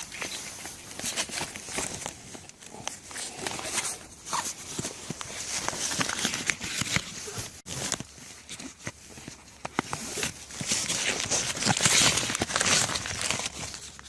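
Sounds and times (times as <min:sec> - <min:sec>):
rustling and crackling leaves: 0:00.0 - 0:14.0.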